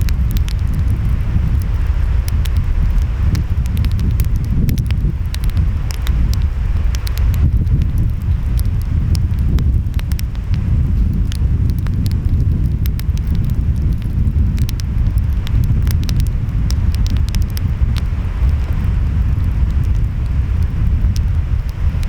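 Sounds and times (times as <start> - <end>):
wind: 0.0 - 22.0
wood fire crackling: 0.0 - 22.0.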